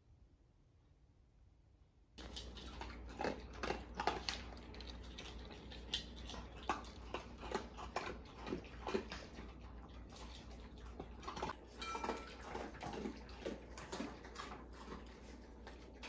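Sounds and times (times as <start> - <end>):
dogs crunching dry kibble: 2.2 - 16.0.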